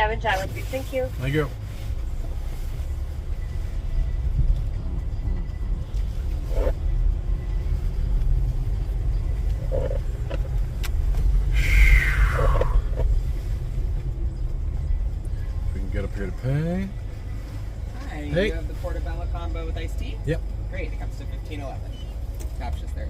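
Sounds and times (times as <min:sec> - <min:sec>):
car idling and creeping forward: 0:00.0 - 0:23.0.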